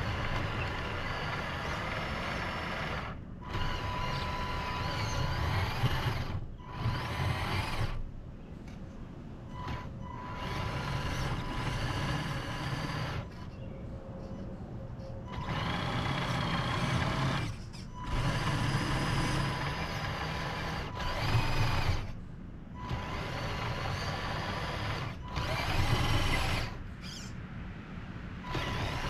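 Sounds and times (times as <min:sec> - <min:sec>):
toy truck motor whining: 0:00.0 - 0:08.0, 0:09.5 - 0:13.6, 0:15.3 - 0:22.2, 0:22.8 - 0:27.3, 0:28.4 - 0:29.0.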